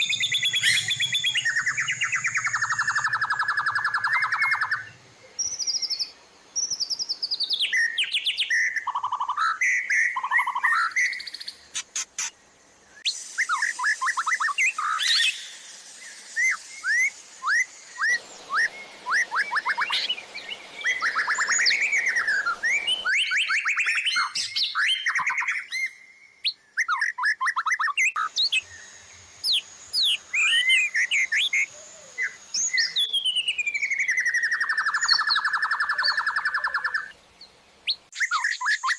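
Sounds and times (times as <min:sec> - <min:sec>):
background hiss: 0:00.0 - 0:26.9, 0:28.1 - 0:38.9
songbird whistling and chirping: 0:00.0 - 0:38.9.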